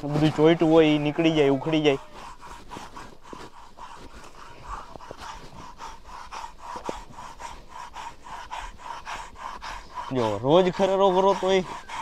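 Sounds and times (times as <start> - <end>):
curry comb rasping over horse coat: 0.0 - 12.0.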